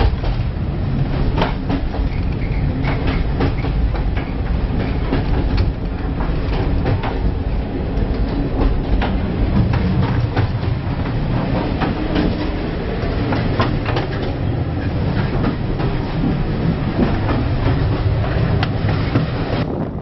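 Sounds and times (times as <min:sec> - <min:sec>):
train clattering and knocking: 0:00.0 - 0:20.0
train wheels rumbling on rails: 0:00.0 - 0:20.0.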